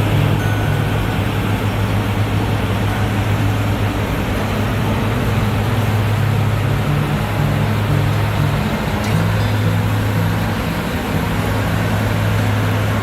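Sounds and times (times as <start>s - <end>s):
diesel farm machinery drone: 0.0s - 13.0s.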